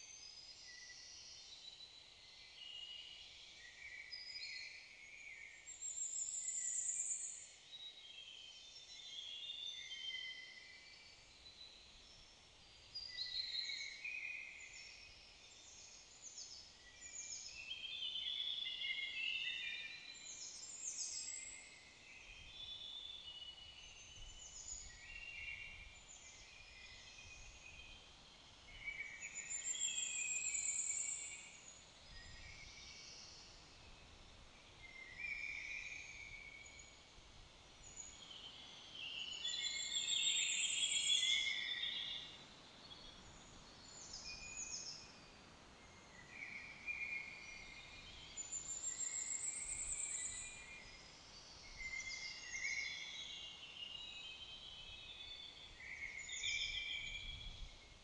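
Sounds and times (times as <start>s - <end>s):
faint steady hiss: 0.0s - 58.0s
songbirds chirping and trilling: 0.3s - 58.0s.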